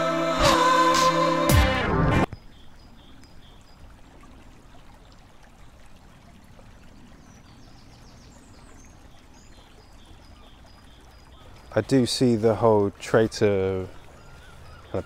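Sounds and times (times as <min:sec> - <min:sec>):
stream trickling: 0:02.2 - 0:15.0.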